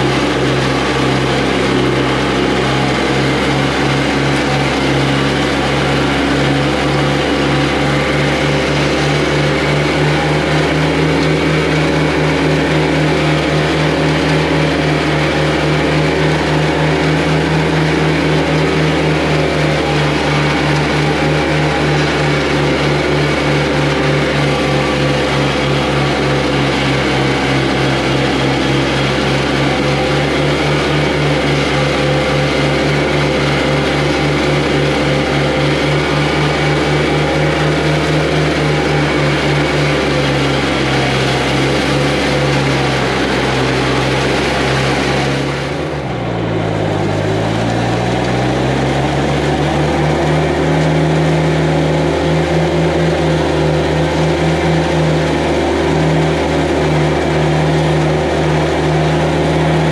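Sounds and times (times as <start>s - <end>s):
straw mulcher running: 0.0s - 59.9s.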